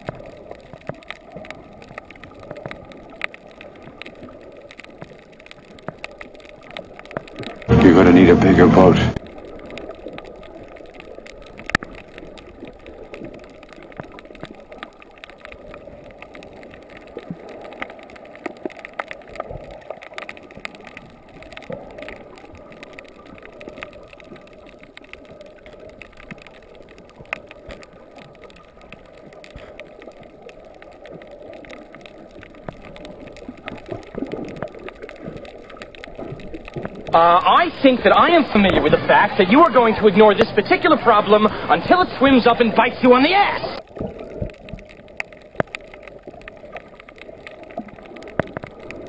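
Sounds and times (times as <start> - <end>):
small clicks and crackles: 0.0 - 7.9, 9.1 - 49.0
muffled underwater water wash: 0.0 - 49.0.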